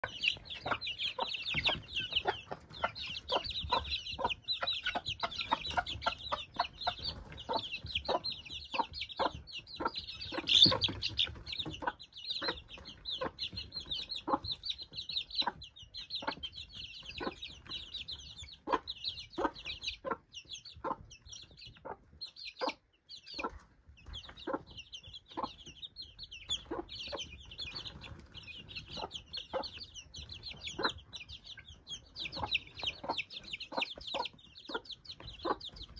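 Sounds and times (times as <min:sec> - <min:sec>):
chicks peeping: 0:00.0 - 0:35.9
hen clucking: 0:00.0 - 0:35.9.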